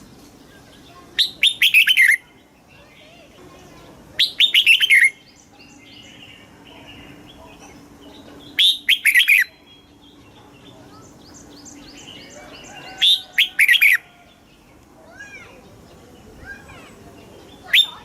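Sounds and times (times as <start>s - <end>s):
faint bird chirps: 0.3s - 18.0s.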